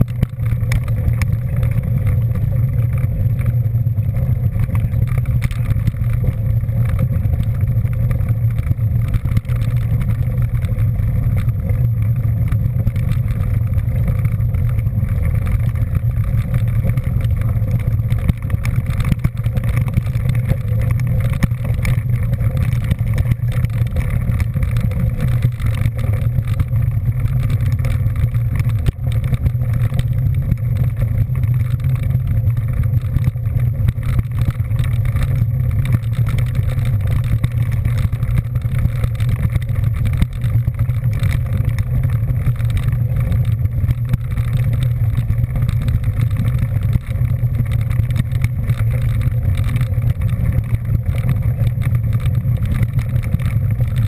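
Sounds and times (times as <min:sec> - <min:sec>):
vehicle rumbling at steady speed: 0:00.0 - 0:54.0.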